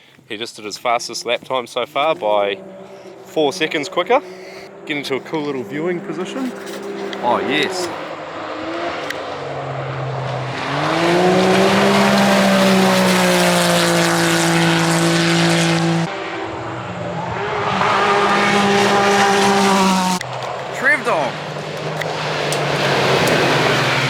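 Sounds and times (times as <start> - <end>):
race car engines revving: 0.4 - 24.0.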